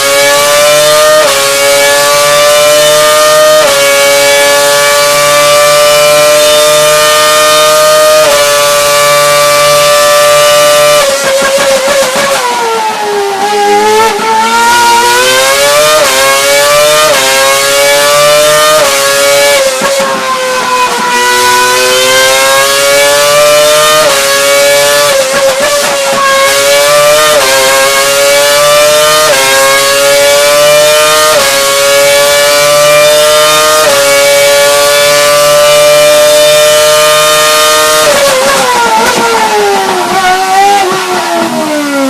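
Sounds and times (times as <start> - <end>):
racing car engine high revs: 0.0 - 42.0.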